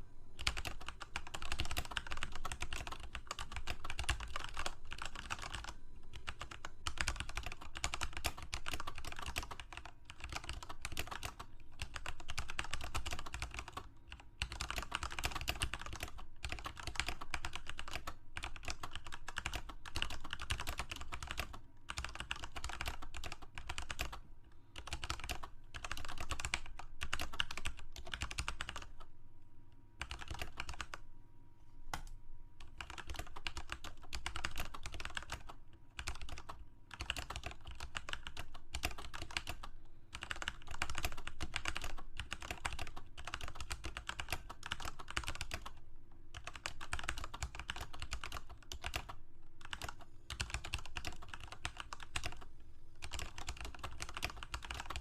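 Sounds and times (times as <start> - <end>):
typing on a computer keyboard: 0.4 - 24.2, 24.8 - 29.1, 30.0 - 31.0, 31.9 - 55.0.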